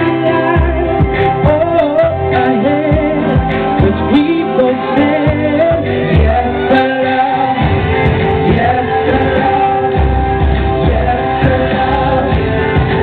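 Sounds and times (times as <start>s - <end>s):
man singing into microphone: 0.0s - 13.0s
pop backing music with bass: 0.0s - 13.0s.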